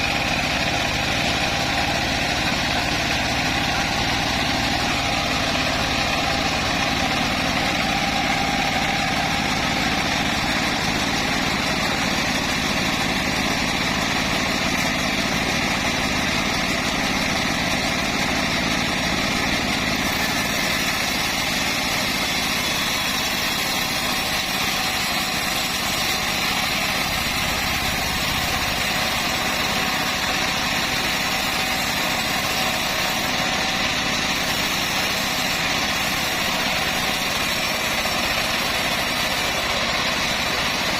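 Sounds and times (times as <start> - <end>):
sawmill engine droning: 0.0 - 40.9.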